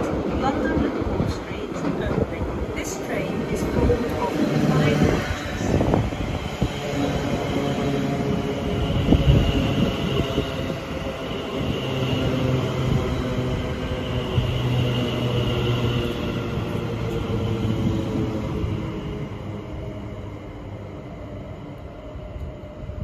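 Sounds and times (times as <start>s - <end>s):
electric train rumble and hum: 0.0s - 23.0s.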